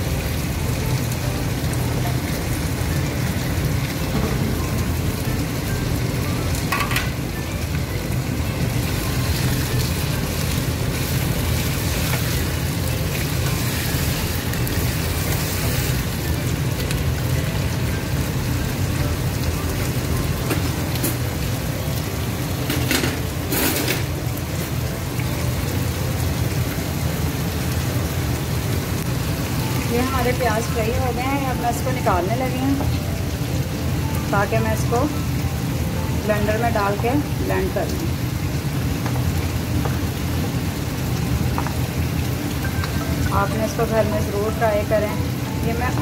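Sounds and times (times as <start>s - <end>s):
chicken sizzling in oil: 0.0s - 46.0s.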